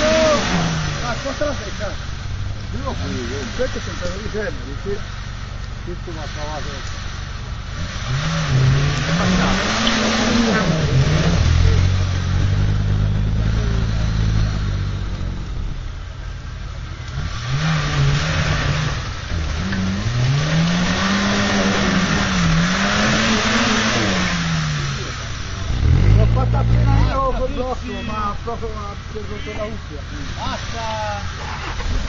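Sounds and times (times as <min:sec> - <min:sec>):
off-road engine revving: 0:00.0 - 0:32.0.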